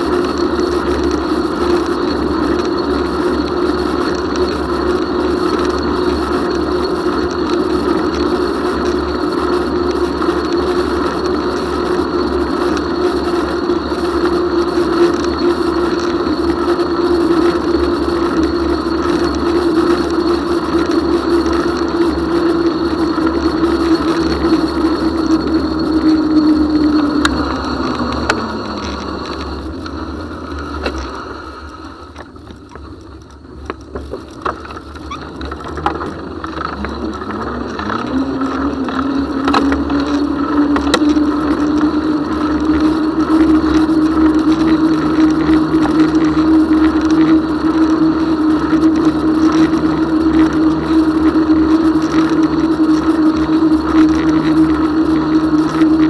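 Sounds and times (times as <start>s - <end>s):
bicycle tyres humming on asphalt: 0.0s - 56.0s.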